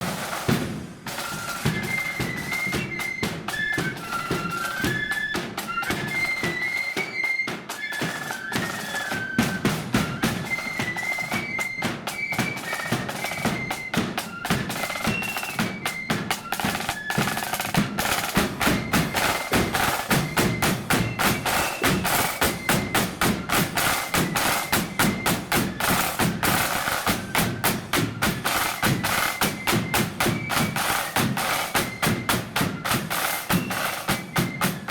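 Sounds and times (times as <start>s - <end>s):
snare and bass drums: 0.0s - 34.9s
flute melody: 0.1s - 34.9s.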